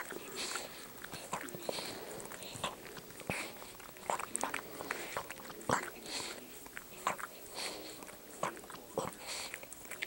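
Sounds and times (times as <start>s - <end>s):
dog licking and smacking: 0.0s - 10.0s.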